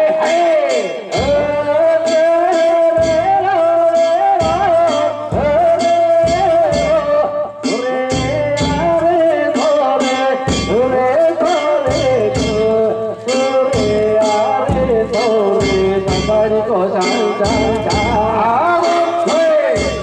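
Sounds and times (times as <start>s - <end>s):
drum and bell strikes: 0.0s - 20.0s
wavering melody: 0.2s - 20.0s.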